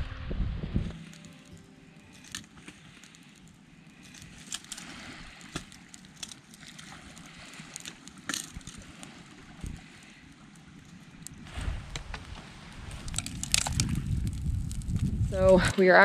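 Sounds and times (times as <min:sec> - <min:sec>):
bonfire crackling and popping: 0:00.8 - 0:16.0.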